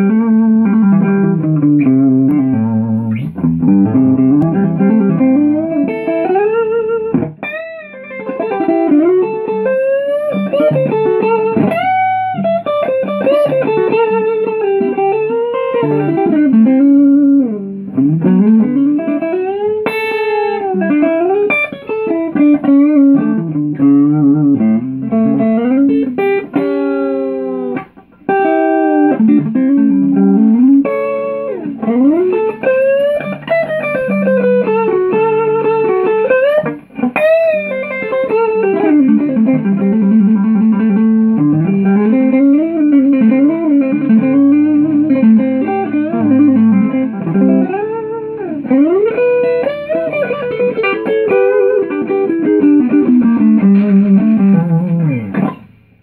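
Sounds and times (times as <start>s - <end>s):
electric guitar lead line with bends: 0.0s - 56.0s.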